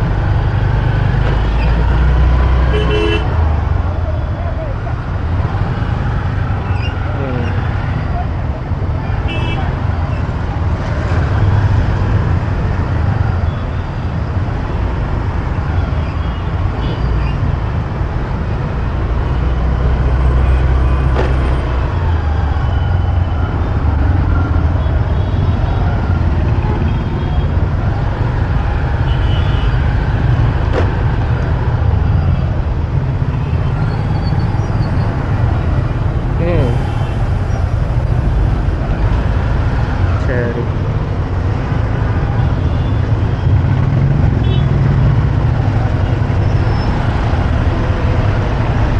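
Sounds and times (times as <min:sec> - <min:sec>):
motorcycle road noise: 0:00.0 - 0:48.9
traffic engines running: 0:00.0 - 0:48.9.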